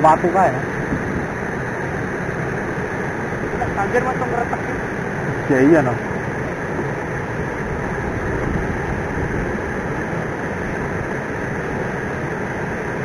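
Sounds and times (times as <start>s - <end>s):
flooding river rushing: 0.0s - 13.0s.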